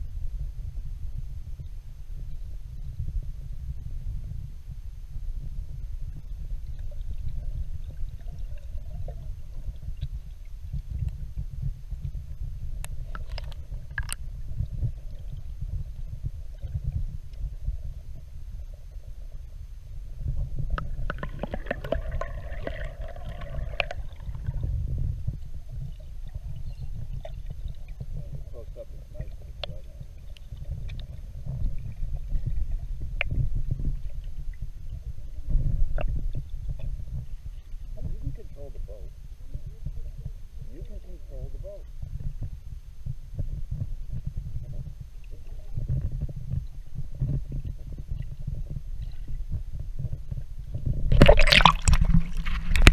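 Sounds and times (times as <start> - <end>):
muffled underwater rumble: 0.0 - 52.9.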